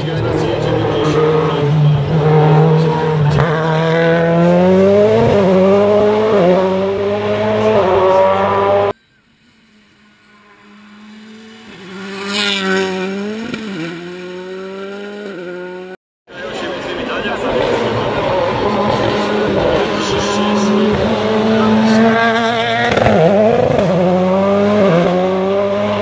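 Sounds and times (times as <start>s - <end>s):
rally car engine revving: 0.0s - 9.0s, 9.6s - 26.0s.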